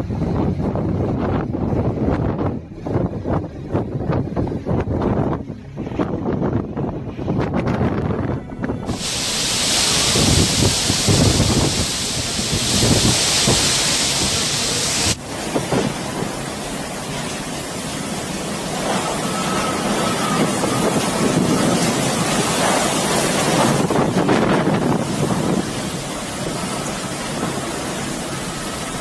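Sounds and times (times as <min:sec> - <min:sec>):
gale-force wind roaring: 0:00.0 - 0:29.0
wind buffeting on microphone: 0:00.0 - 0:29.0.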